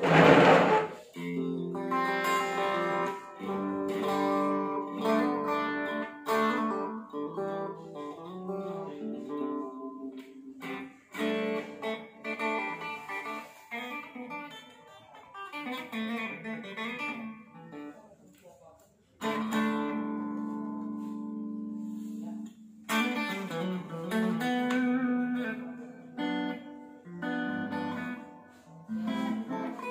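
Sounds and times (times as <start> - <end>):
electric guitar through amp: 0.0 - 18.0, 19.2 - 29.9.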